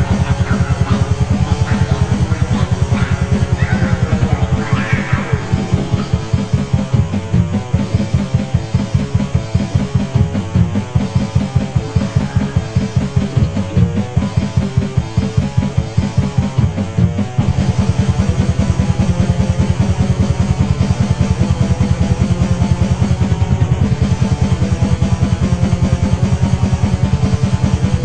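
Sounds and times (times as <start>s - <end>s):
fast drum-kit beat: 0.0s - 28.0s
muffled lo-fi rock song: 0.0s - 28.0s.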